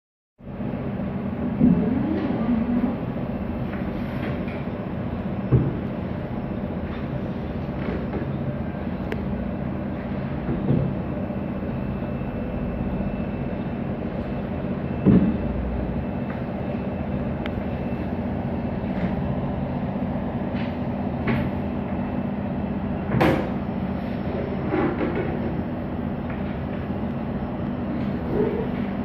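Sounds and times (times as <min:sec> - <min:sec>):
steady low hum: 0:00.4 - 0:29.0.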